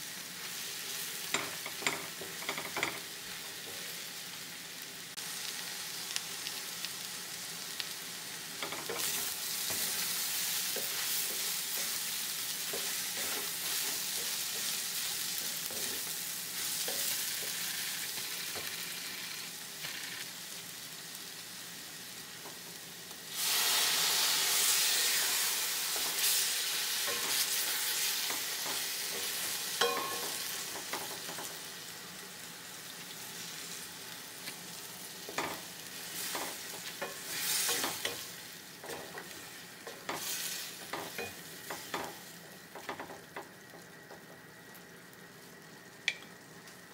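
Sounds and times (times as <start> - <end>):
fritters sizzling in a pan: 0.0 - 46.9.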